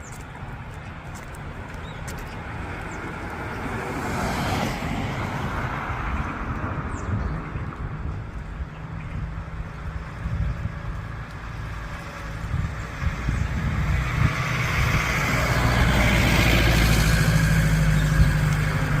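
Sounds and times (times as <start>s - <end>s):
vehicle engine and tyre noise: 0.0s - 19.0s.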